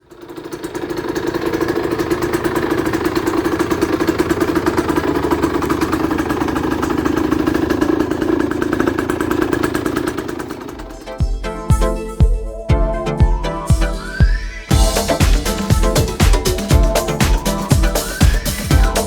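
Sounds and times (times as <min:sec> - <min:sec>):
two-stroke motorcycle engine running: 0:00.0 - 0:19.0.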